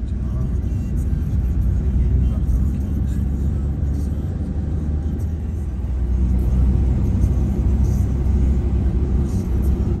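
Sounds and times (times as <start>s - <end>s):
engine and road rumble in cabin: 0.0s - 10.0s.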